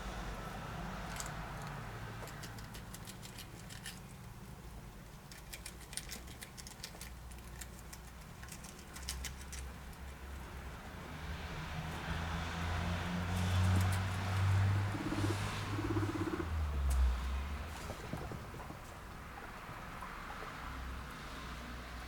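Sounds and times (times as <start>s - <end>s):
guinea pigs chewing: 1.1s - 11.2s, 13.3s - 22.0s.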